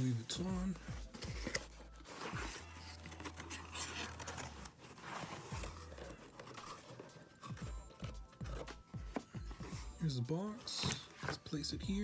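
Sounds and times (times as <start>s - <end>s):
cardboard box rustling and scraping: 0.1s - 12.0s.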